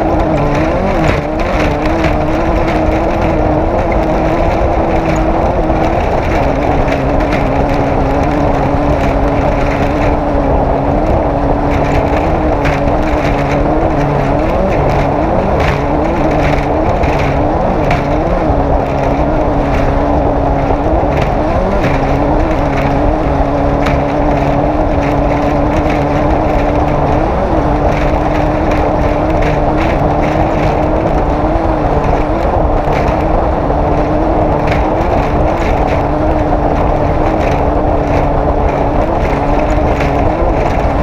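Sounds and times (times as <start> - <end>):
race vehicle engine running hard: 0.0 - 41.0.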